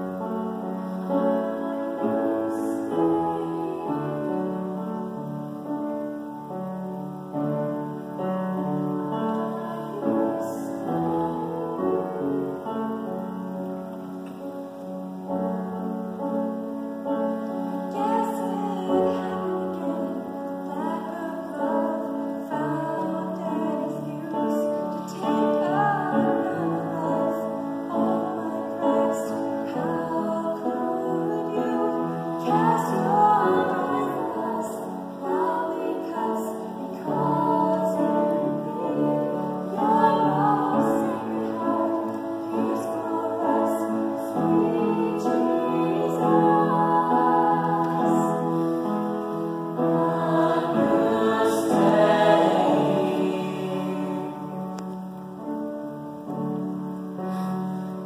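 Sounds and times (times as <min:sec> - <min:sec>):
choir singing sacred harmony: 0:00.0 - 0:58.0.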